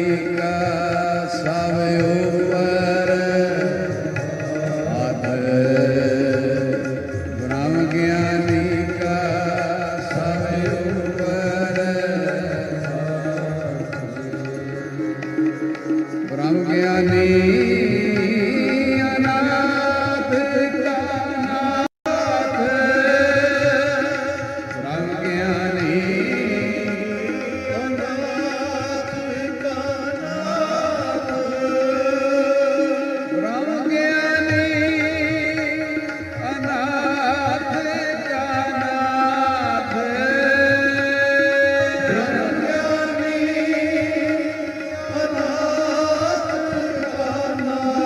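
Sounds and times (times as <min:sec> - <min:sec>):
harmoniums: 0:00.0 - 0:48.0
person singing: 0:00.0 - 0:48.0
tabla: 0:00.0 - 0:48.0.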